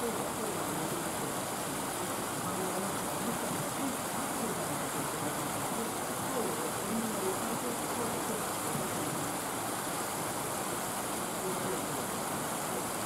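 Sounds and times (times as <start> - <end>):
distant people talking: 0.0 - 13.0
steady background hiss: 0.0 - 13.0.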